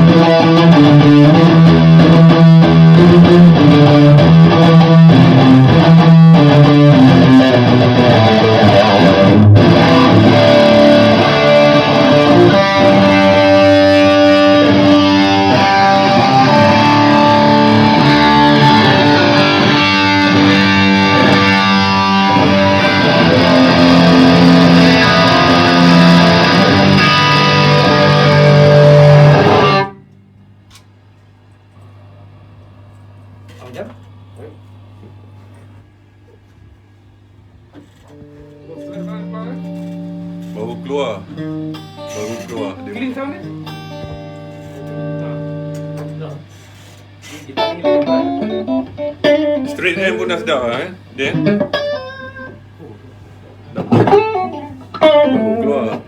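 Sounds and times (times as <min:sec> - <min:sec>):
electric guitar riffs: 0:00.0 - 0:30.4, 0:37.8 - 0:56.0.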